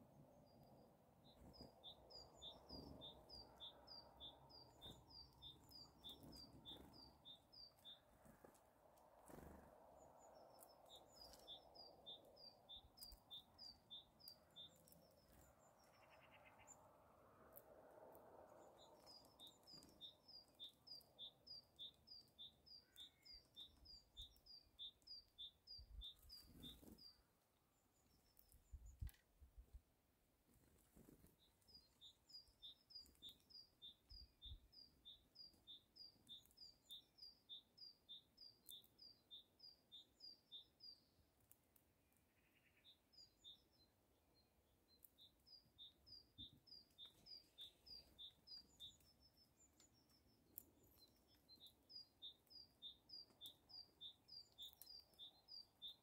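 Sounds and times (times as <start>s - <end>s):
small songbird singing: 0.0s - 29.7s, 30.6s - 56.0s.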